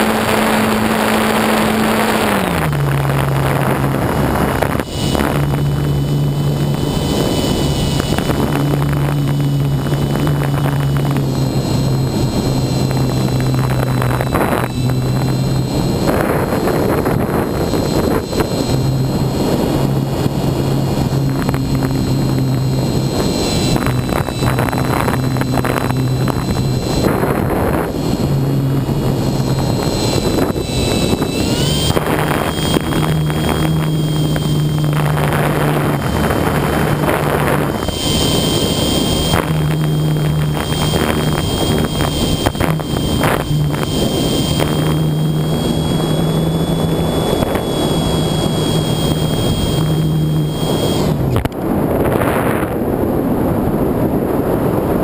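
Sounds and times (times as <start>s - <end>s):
model plane motor whining: 0.0s - 51.7s
wind noise on microphone: 0.0s - 55.0s.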